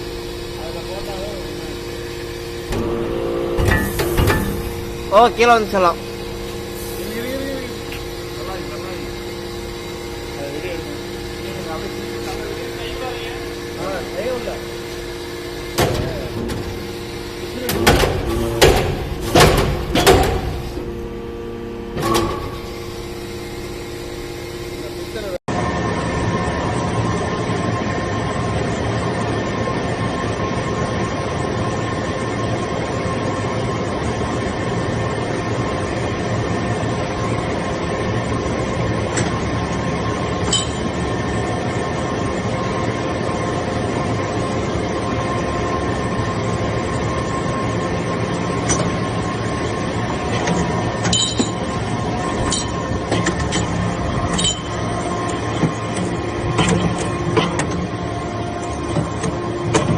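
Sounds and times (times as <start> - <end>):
baler machine hum: 0.0 - 59.9.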